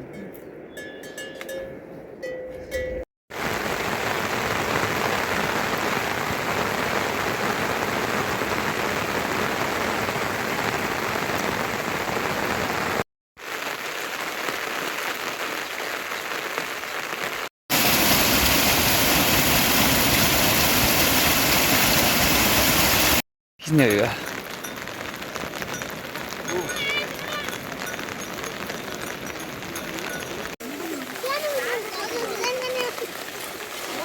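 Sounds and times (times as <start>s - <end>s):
steady rain falling: 3.3s - 34.0s.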